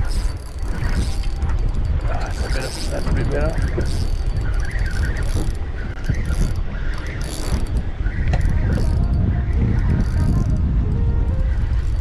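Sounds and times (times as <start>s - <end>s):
fishing reel whirring and clicking: 0.0s - 12.0s
wind rumble on microphone: 0.0s - 12.0s.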